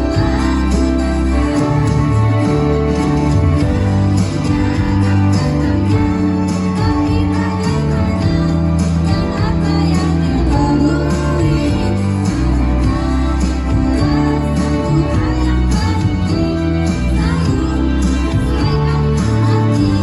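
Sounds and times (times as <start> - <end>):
held bass notes: 0.0 - 20.0
people singing: 0.0 - 20.0
plucked strings: 0.0 - 20.0.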